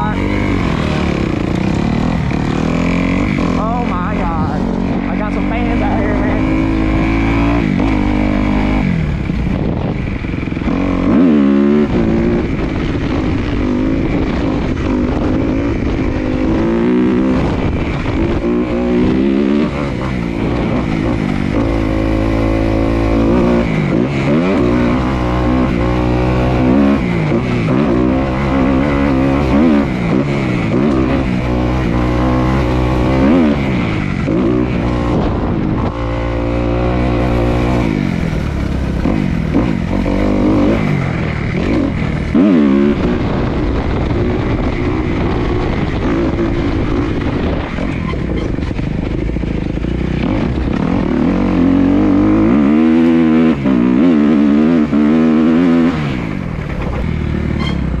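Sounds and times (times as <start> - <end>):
small off-road engines revving: 0.0 - 58.0.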